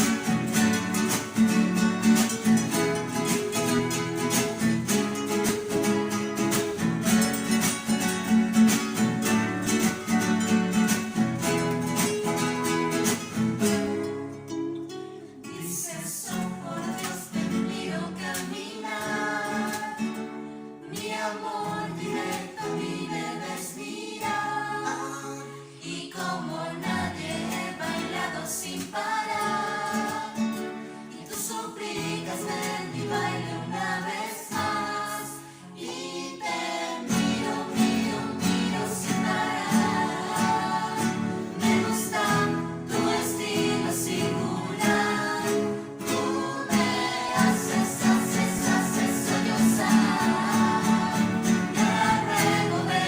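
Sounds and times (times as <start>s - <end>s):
group of voices singing: 0.0s - 14.1s, 15.4s - 53.0s
strummed acoustic guitars: 0.0s - 53.0s.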